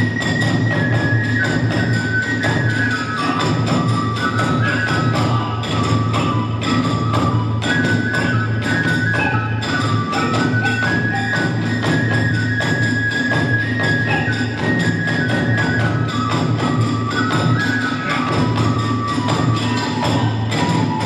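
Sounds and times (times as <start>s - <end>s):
bamboo flute melody: 0.0s - 21.0s
taiko drums beating: 0.0s - 21.0s.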